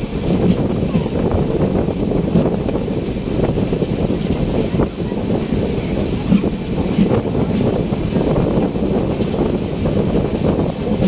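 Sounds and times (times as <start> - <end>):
faint rail clacks: 0.0 - 11.0
train wheels rumbling on rails: 0.0 - 11.0
wind buffeting microphone: 0.0 - 11.0.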